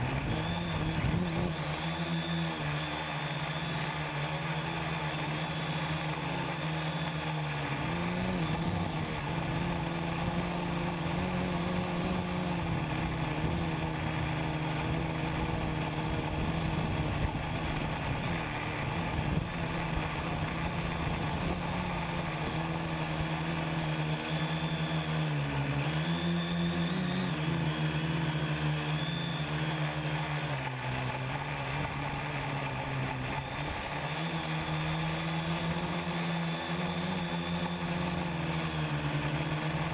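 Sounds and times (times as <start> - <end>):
quadcopter propellers buzzing: 0.0 - 39.9.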